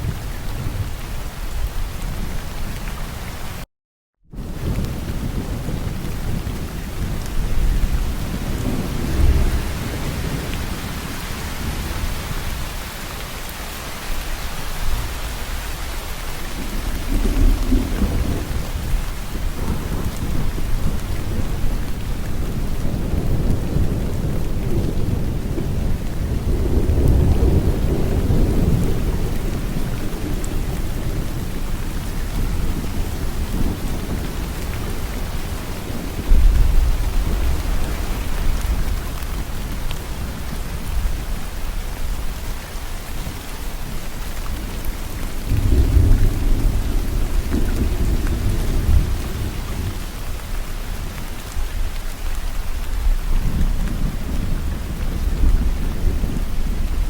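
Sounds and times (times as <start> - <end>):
heavy rain falling: 0.0 - 3.7, 4.3 - 57.0.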